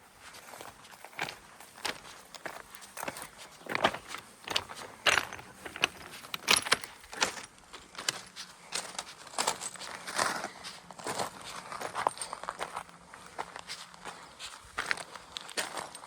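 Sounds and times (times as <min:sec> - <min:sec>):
footsteps on stony ground: 0:00.0 - 0:16.0.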